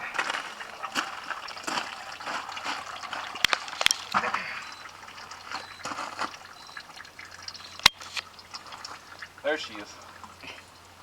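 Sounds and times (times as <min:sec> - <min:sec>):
oil trickling and splashing: 0:00.0 - 0:11.0.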